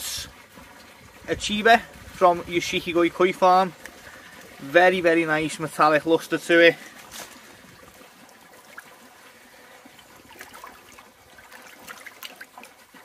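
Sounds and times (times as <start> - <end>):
small water splashes: 0.0 - 13.0
water sloshing and trickling: 0.0 - 13.0.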